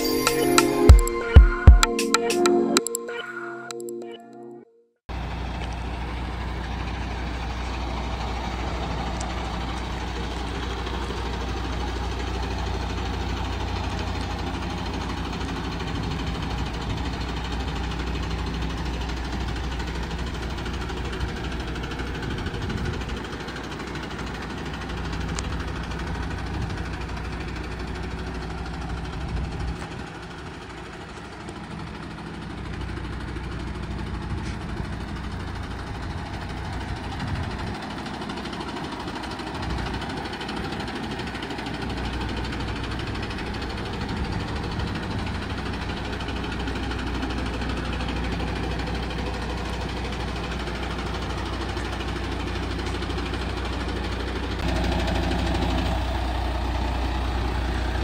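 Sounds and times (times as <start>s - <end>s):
diesel engine idling: 5.1s - 58.0s.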